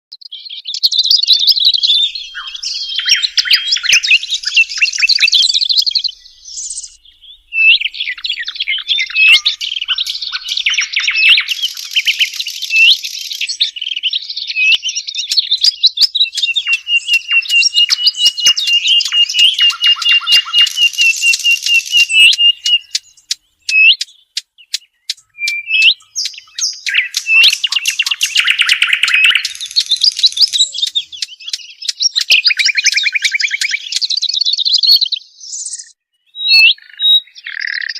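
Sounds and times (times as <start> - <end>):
songbirds chirping and trilling: 0.1 - 37.9.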